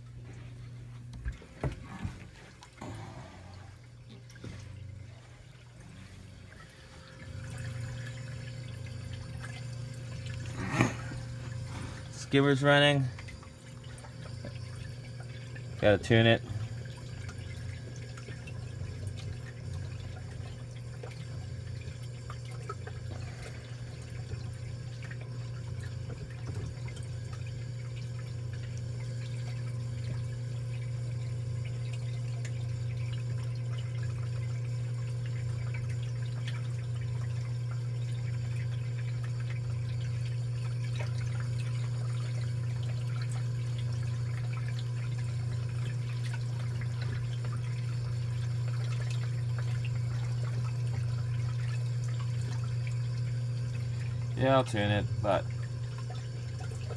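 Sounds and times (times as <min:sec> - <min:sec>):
low pump hum: 0:00.0 - 0:56.9
water pouring and trickling: 0:00.0 - 0:56.9.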